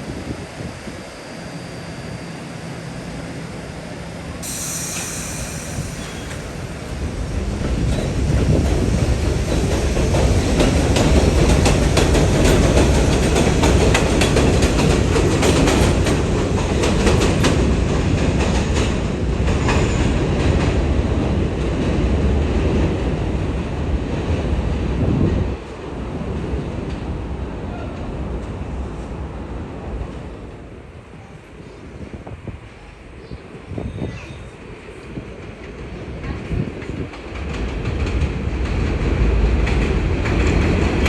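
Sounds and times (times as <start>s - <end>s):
subway train rumble: 0.0s - 41.0s.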